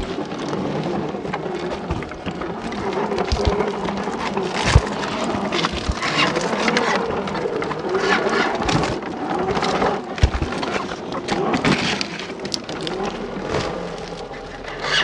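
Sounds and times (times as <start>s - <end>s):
electric motor and gearbox whining: 0.0s - 15.0s
tyres crunching over leaves and twigs: 0.0s - 15.0s.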